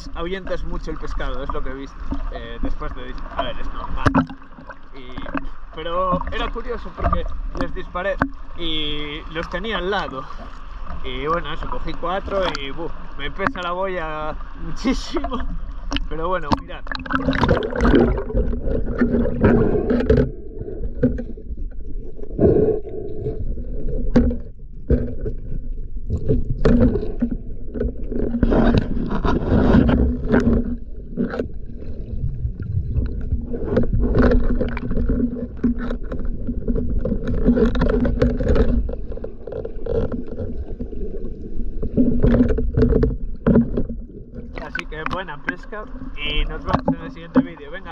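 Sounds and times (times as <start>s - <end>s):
clicks and knocks underwater: 0.0s - 47.9s
underwater bubbling: 0.0s - 47.9s
underwater low rumble: 0.0s - 47.9s.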